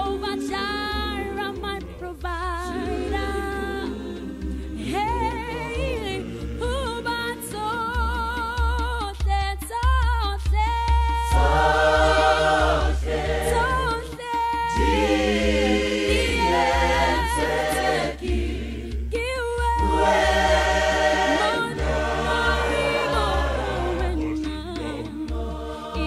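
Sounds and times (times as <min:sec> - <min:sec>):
choir singing held chords: 0:00.0 - 0:08.6, 0:11.2 - 0:26.0.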